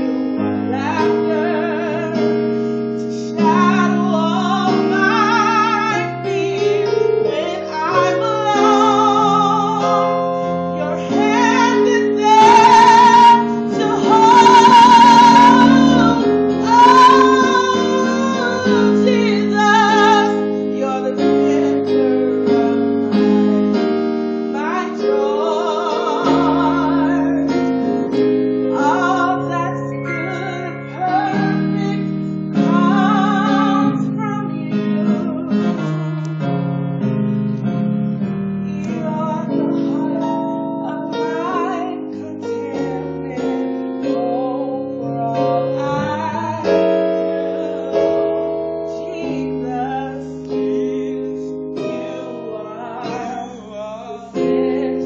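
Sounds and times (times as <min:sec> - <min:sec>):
woman singing gospel song: 0:00.0 - 0:35.9, 0:38.7 - 0:55.0
keyboard piano chords: 0:00.0 - 0:55.0.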